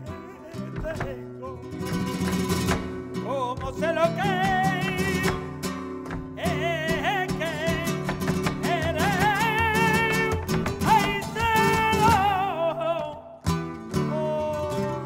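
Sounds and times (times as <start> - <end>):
person singing with vibrato: 0.0 - 2.3, 3.2 - 5.7, 6.4 - 15.0
acoustic flamenco guitars: 0.0 - 15.0.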